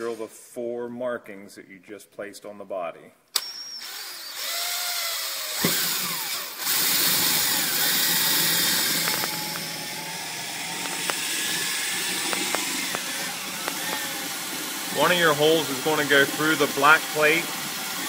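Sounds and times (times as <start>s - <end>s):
drill motor whine: 3.5s - 18.0s.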